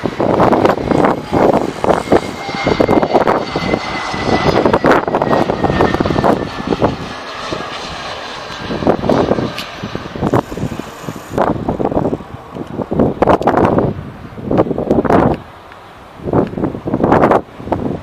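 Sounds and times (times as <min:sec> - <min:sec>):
jet engines passing: 0:00.0 - 0:18.0
wind buffeting microphone: 0:00.0 - 0:18.0.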